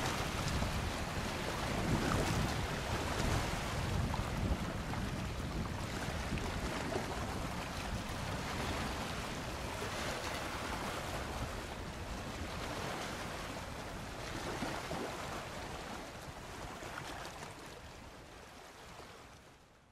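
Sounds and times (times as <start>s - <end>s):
wind on microphone: 0.0s - 18.2s
small waves washing: 0.0s - 19.6s.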